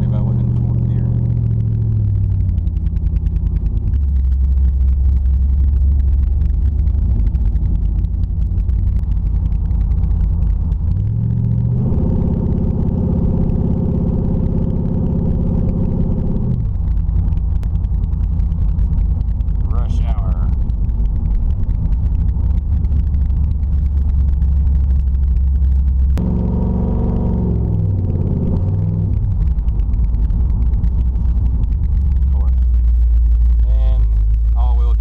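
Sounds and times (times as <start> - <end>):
loud unmuffled car engine: 0.0 - 35.0.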